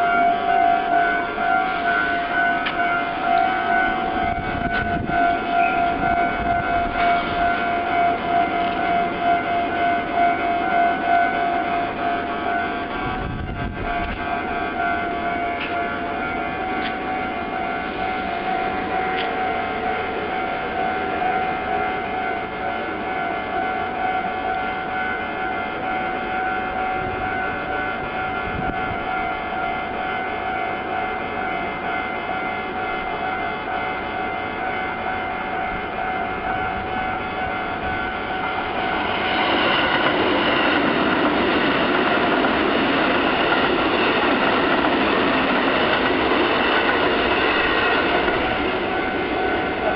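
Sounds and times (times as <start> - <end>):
level-crossing warning bell: 0.0 - 49.9
train wheels and running noise: 0.0 - 49.9.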